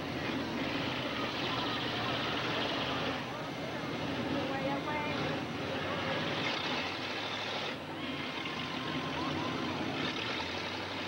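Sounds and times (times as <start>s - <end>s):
car engines running rough: 0.0s - 11.0s.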